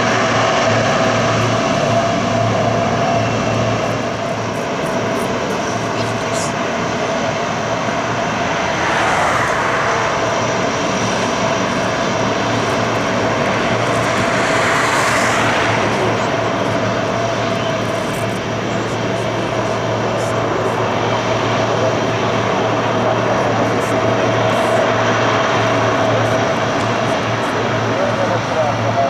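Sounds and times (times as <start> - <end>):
turboprop engines whining: 0.0 - 29.0.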